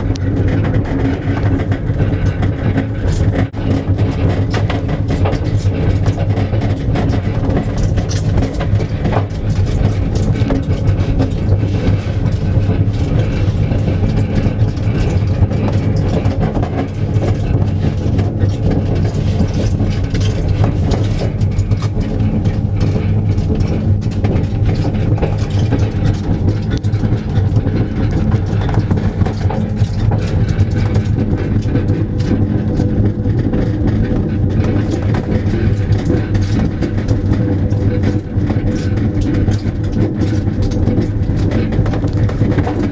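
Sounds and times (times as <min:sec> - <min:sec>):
low hum: 0:00.0 - 0:42.9
trailer rumbling on asphalt road: 0:00.0 - 0:42.9.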